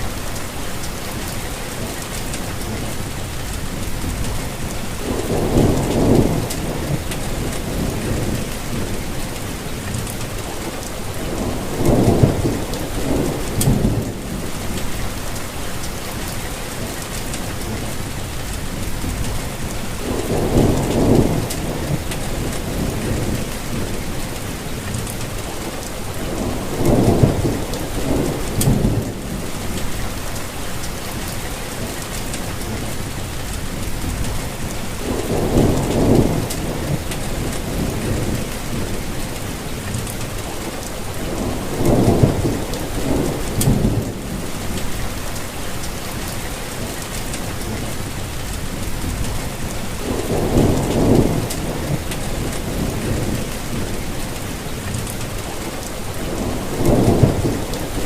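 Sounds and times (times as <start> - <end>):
steady rainfall: 0.0 - 58.0
thunder rumbling: 2.5 - 16.3, 17.5 - 31.5, 32.5 - 58.0.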